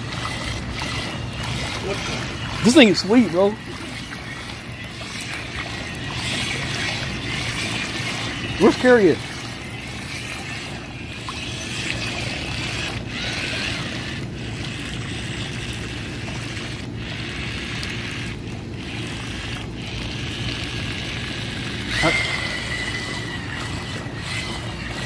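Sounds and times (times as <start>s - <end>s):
high electric motor whine: 0.0s - 25.0s
paddle wheels splashing water: 0.0s - 25.0s.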